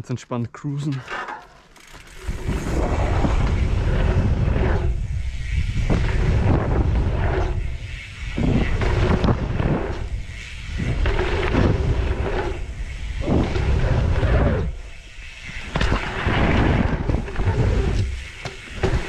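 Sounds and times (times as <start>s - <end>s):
wind rushing over microphone: 2.2s - 19.0s.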